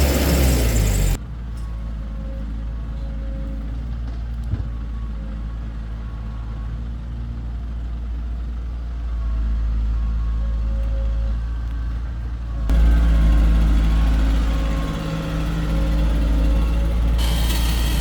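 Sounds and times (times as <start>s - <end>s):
heavy diesel engine running: 0.0s - 10.8s, 11.4s - 18.0s.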